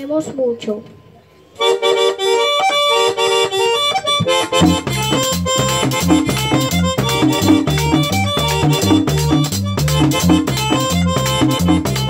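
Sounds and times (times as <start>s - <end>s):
accordion melody: 1.5s - 12.0s
drum and scraper dance rhythm: 2.3s - 12.0s.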